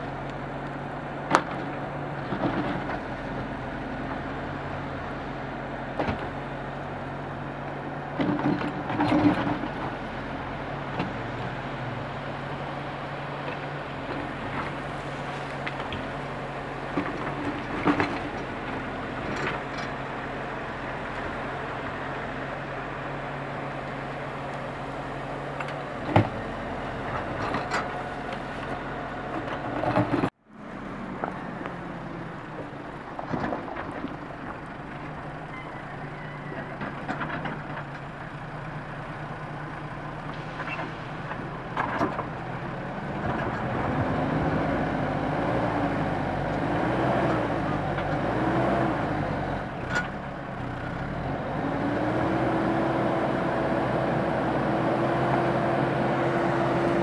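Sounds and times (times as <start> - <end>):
backhoe loader engine: 0.0 - 57.0
diesel machinery running: 0.0 - 57.0.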